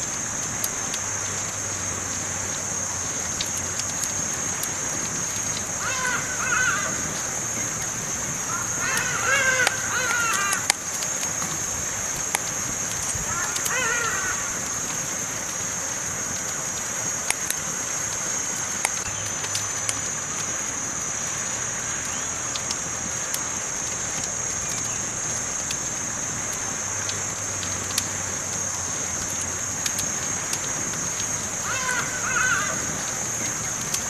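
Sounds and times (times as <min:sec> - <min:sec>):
campfire crackling: 0:00.0 - 0:34.0.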